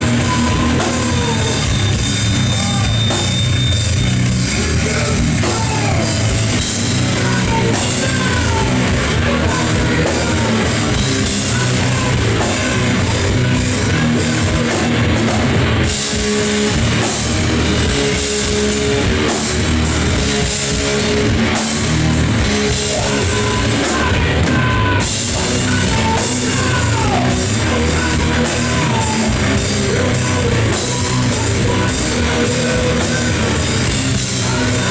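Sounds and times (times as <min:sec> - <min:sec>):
bass guitar: 0:00.0 - 0:34.9
distorted electric guitar: 0:00.0 - 0:34.9
drum kit: 0:00.0 - 0:34.9.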